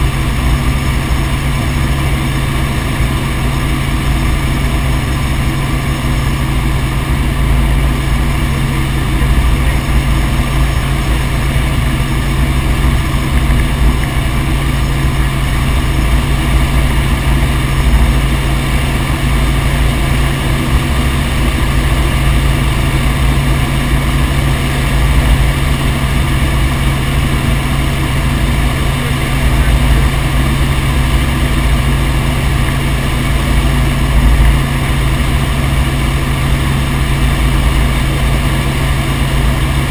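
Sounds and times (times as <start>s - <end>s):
constant low hum: 0.0s - 39.9s
helicopter rotor and engine: 0.0s - 39.9s.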